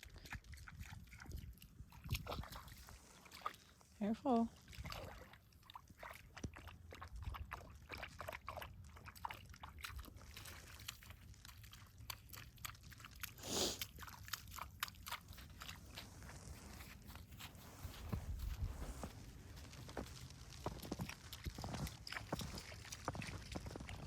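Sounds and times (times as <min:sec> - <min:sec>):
crunching in wet snow: 0:00.1 - 0:24.0.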